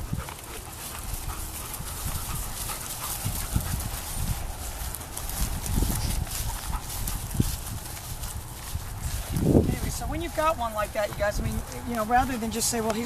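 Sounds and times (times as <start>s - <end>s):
dogs moving about: 0.0s - 13.0s
wind rumbling on microphone: 0.0s - 13.0s.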